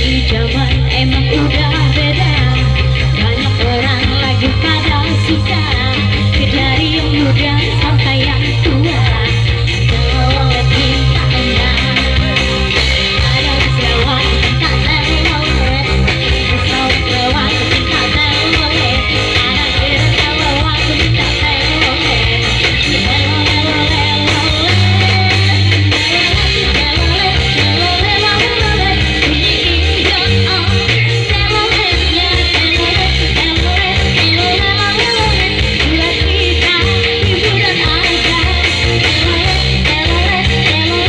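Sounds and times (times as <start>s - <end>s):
live band music: 0.0s - 41.0s
steady bass line: 0.0s - 41.0s.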